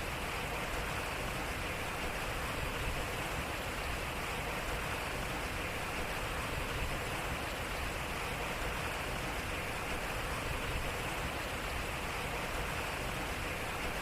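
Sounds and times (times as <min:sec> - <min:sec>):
water splashing around water wheel: 0:00.0 - 0:14.0.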